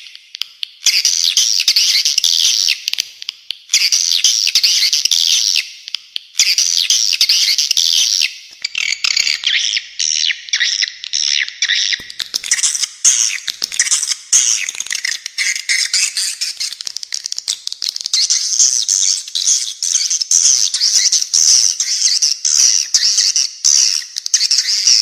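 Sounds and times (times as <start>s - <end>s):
birds chattering high-pitched: 0.0s - 5.7s, 6.3s - 25.0s.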